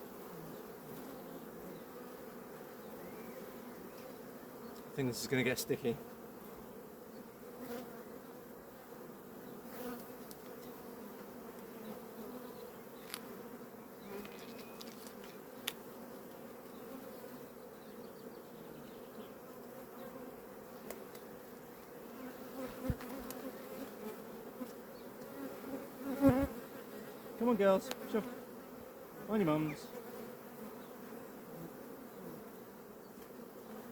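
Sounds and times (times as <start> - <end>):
bees buzzing: 0.0 - 33.9.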